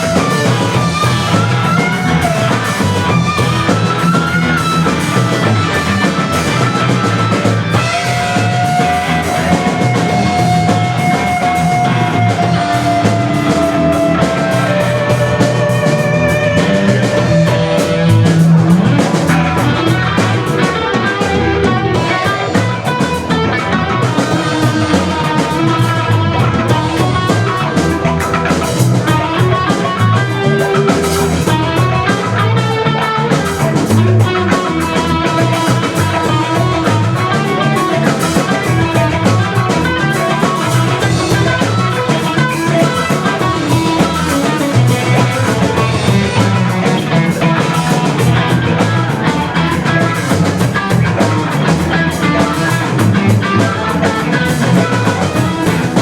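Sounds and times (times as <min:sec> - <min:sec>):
bass guitar: 0:00.0 - 0:56.0
drum kit: 0:00.0 - 0:56.0
lead guitar solo: 0:00.0 - 0:56.0.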